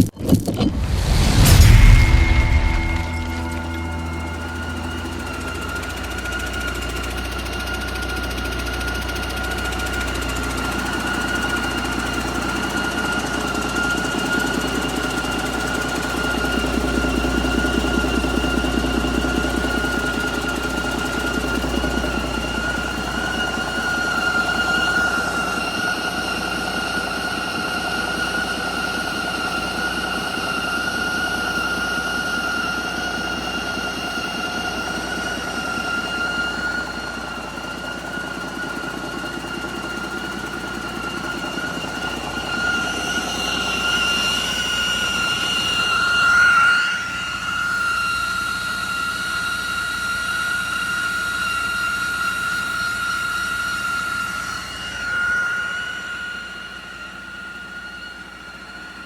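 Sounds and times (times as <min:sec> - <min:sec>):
high-pitched whine: 0:00.0 - 0:59.0.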